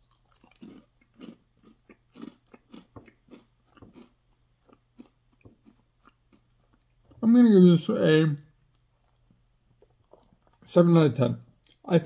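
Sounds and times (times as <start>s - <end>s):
crackers being chewed: 0.0s - 7.3s, 8.5s - 10.7s, 11.6s - 11.9s.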